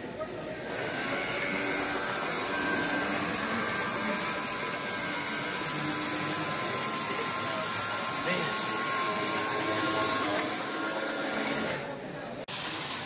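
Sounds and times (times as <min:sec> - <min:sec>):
model trolley motor whir: 0:00.6 - 0:13.0.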